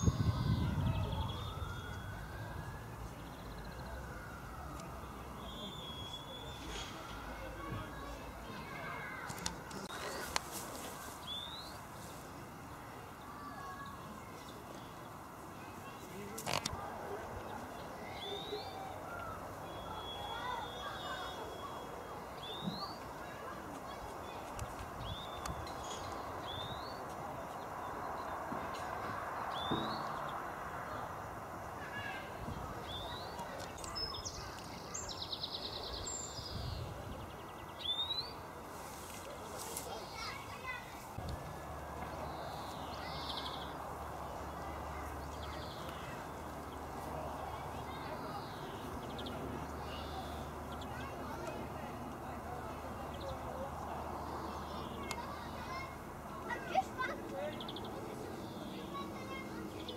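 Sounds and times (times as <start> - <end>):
outdoor background noise: 0.0 - 59.9
small birds chirping: 4.8 - 12.2, 13.1 - 59.9.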